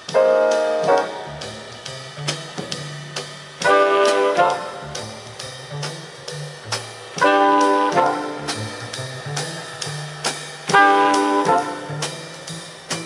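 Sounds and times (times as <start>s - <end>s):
big band jazz over loudspeakers: 0.0s - 13.0s.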